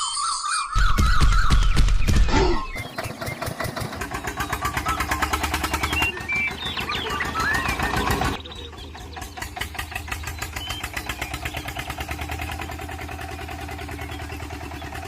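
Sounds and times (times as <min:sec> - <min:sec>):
small engine chugging: 0:00.8 - 0:15.0.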